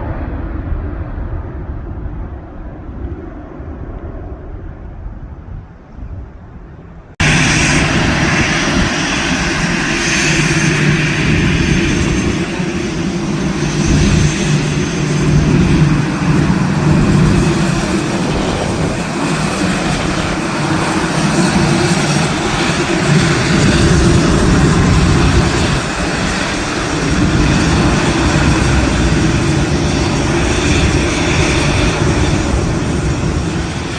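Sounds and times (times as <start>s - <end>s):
airplane engines running: 0.0s - 33.9s.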